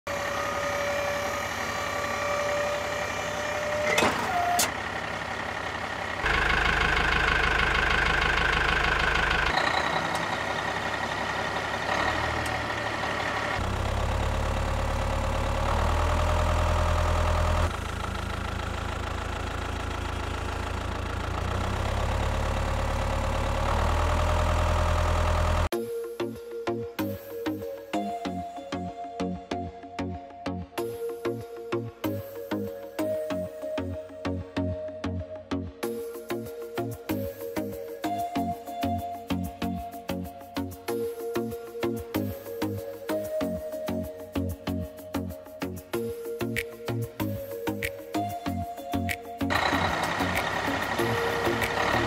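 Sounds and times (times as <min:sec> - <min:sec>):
truck engine idling and revving: 0:00.1 - 0:25.7, 0:31.2 - 0:52.0.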